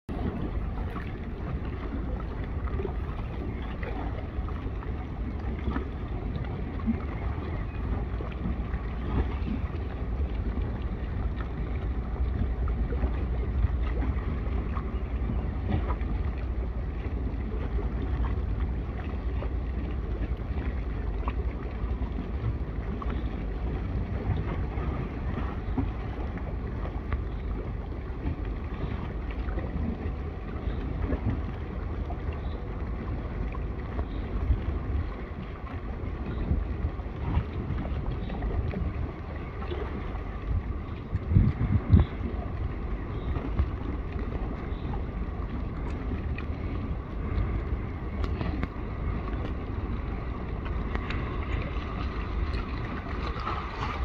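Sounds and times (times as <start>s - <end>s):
wind rumbling on microphone: 0.1s - 54.0s.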